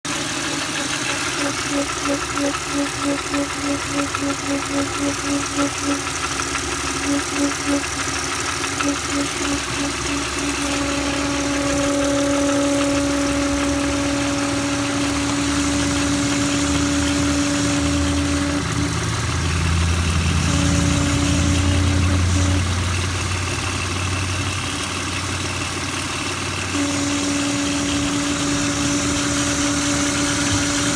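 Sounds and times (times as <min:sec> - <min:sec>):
car engine idling: 0:00.1 - 0:30.9
high whine from engine valve: 0:00.1 - 0:30.9.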